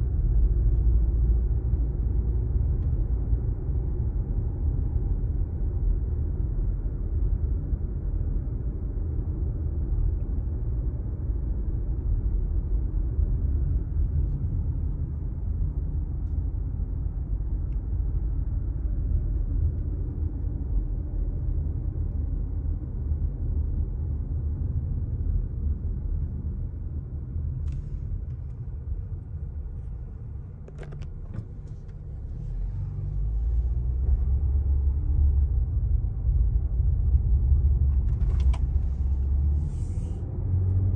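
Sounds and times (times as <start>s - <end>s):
car cabin road and engine rumble: 0.0s - 40.9s.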